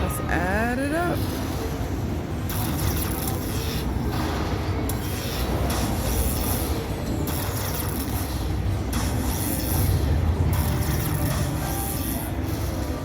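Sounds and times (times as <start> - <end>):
casino slot machines din: 0.0 - 13.0.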